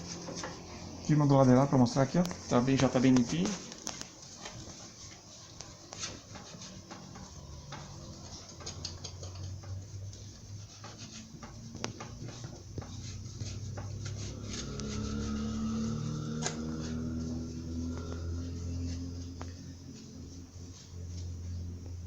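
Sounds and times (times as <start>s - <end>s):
low steady hum: 0.0s - 22.0s
light scrapes and clicks: 2.2s - 20.2s
sponge rubbing on glass: 3.4s - 22.0s.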